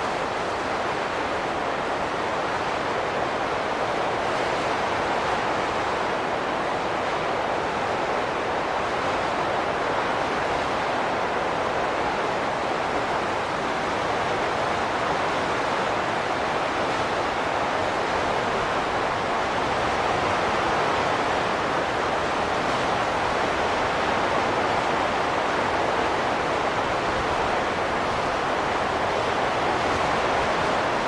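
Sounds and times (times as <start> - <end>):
steady rushing wind: 0.0 - 31.0.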